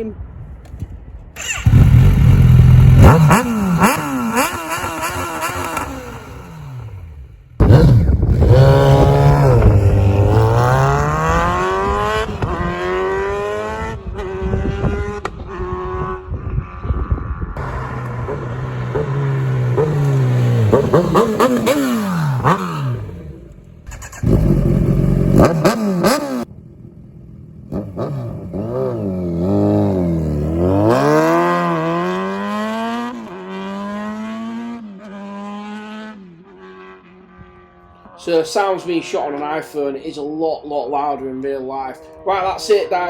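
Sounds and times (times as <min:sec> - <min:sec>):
motorcycle engine revving: 0:01.4 - 0:39.5.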